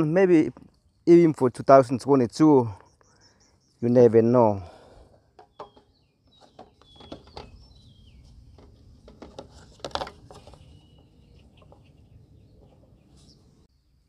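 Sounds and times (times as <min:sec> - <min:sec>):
birds chirping: 0:00.0 - 0:09.1, 0:10.2 - 0:14.0.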